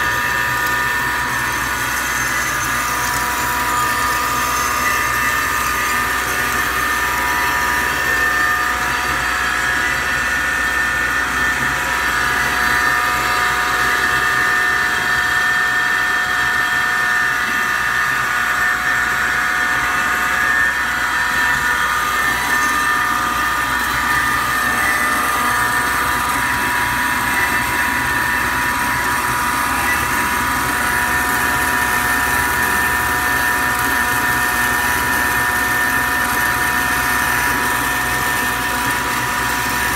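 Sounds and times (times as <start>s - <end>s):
band saw hum and whine: 0.0s - 39.9s.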